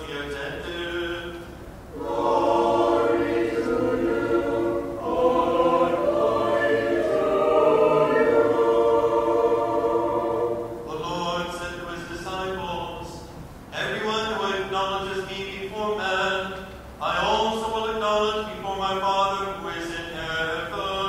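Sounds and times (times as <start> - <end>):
choir singing in harmony: 0.0 - 13.2, 13.8 - 21.0.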